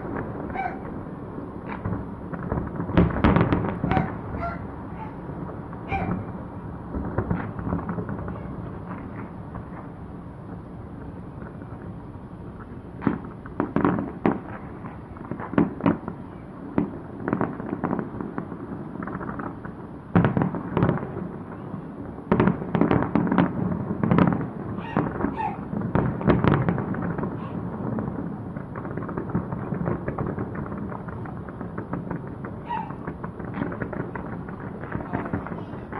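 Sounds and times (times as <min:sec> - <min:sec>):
fireworks bangs: 0:00.0 - 0:35.9
fireworks low rumble: 0:00.0 - 0:35.9.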